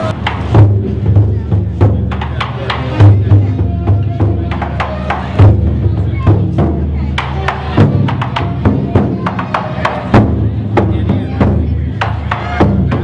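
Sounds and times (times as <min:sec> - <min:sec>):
deep drum hits: 0:00.0 - 0:13.0.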